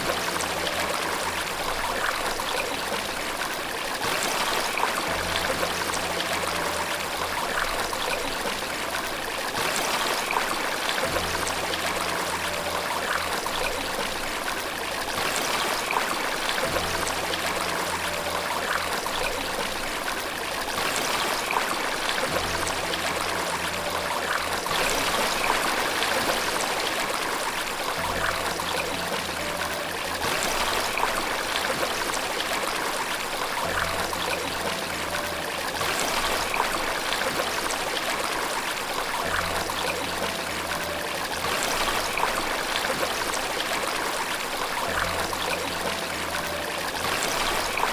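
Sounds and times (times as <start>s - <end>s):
flowing water rushing: 0.0s - 47.9s.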